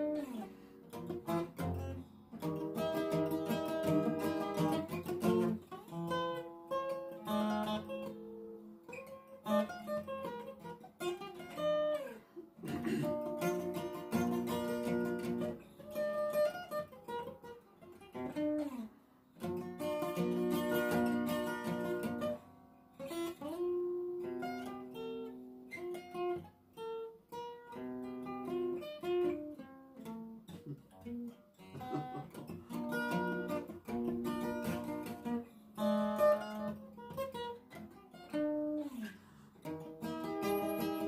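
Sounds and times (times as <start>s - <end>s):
acoustic guitar playing: 0.0s - 41.0s.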